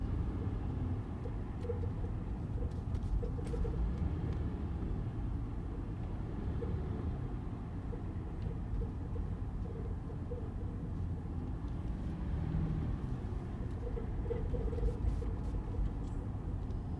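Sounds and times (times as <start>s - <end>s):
road and engine rumble: 0.0s - 16.9s.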